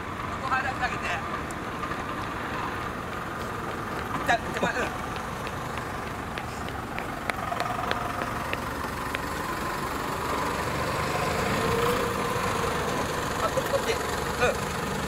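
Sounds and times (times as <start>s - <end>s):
truck engine running slowly: 1.3s - 15.0s.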